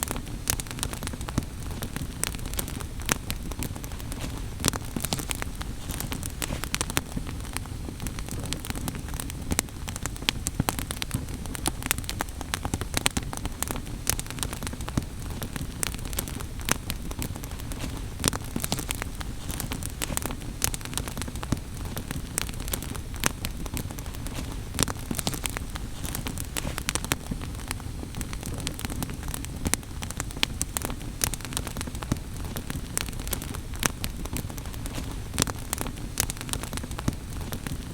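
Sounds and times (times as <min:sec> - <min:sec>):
fire crackling and popping: 0:00.0 - 0:37.9
low rumble of flames: 0:00.0 - 0:37.9.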